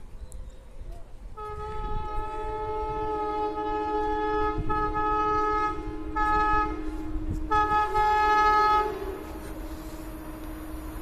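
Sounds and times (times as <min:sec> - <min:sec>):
train air horn blasts: 0:01.4 - 0:11.0.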